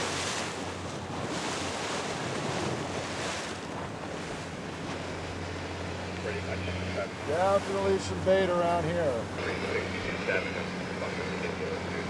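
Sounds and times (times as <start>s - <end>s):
boat engine drone: 0.0s - 12.0s
water rushing past a boat: 0.0s - 12.0s.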